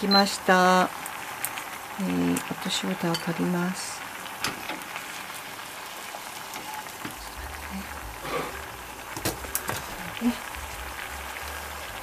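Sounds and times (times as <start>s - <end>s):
pot simmering and bubbling: 0.0s - 12.0s.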